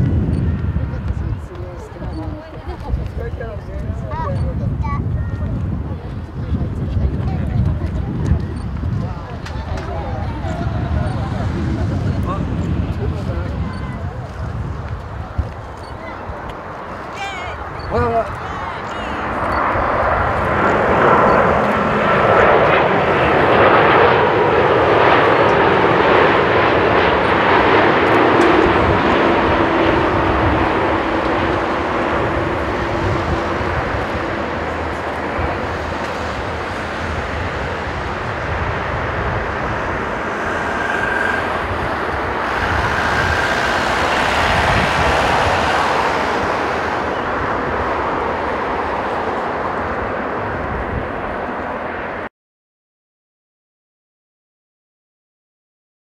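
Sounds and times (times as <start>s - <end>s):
jet engines rushing and whining: 0.0s - 52.3s.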